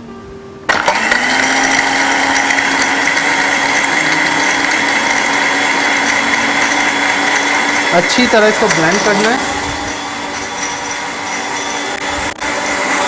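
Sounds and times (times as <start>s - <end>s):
blender motor running: 0.7s - 13.0s.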